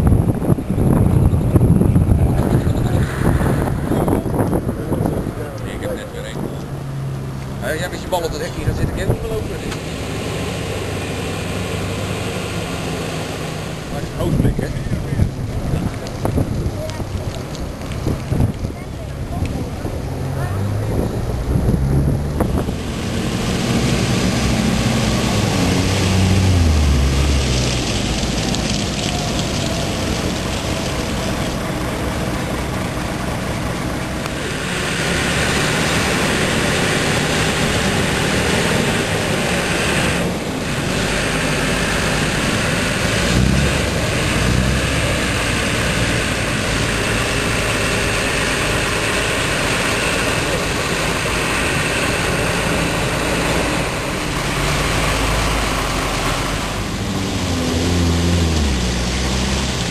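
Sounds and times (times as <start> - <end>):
vehicle engines running: 0.0 - 59.9.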